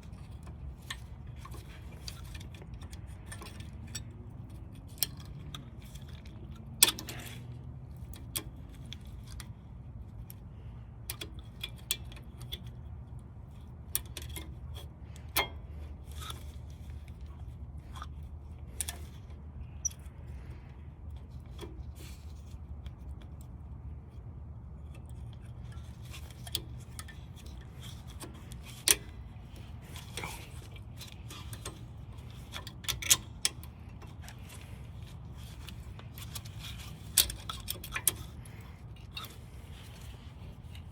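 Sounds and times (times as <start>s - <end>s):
metallic clicks of tools and hardware: 0.0s - 23.6s, 24.8s - 40.9s
steady low hum: 0.0s - 40.9s.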